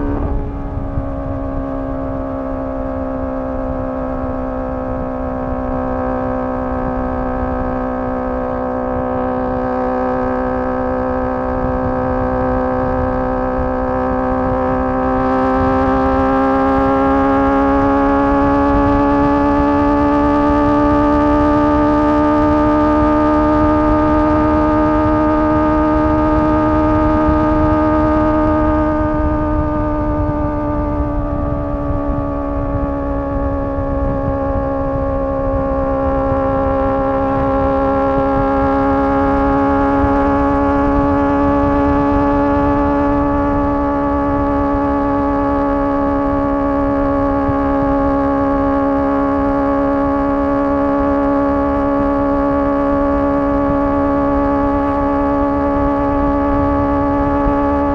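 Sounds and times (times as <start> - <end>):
motorcycle engine at high revs: 0.0 - 57.9.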